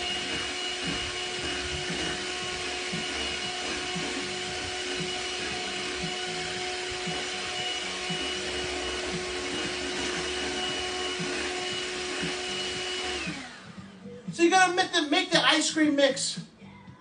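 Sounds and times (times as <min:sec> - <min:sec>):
electric hand mixer whine: 0:00.0 - 0:14.9.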